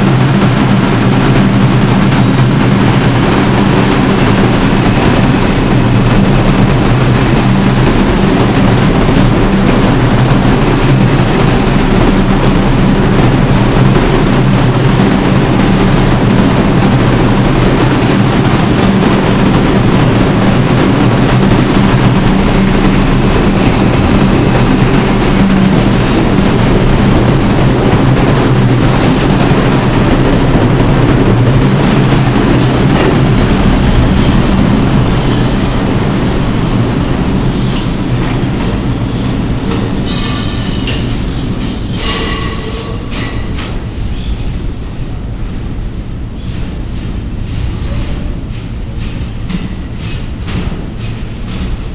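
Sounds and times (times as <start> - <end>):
low motor hum: 0.0 - 51.9
wheels rumbling on rail: 0.0 - 51.9.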